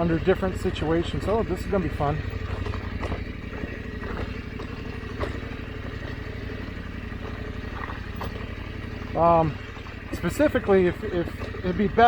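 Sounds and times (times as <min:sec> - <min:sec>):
motorcycle engine at low revs: 0:00.0 - 0:12.0
knocks and clatter over rocks: 0:00.2 - 0:12.0.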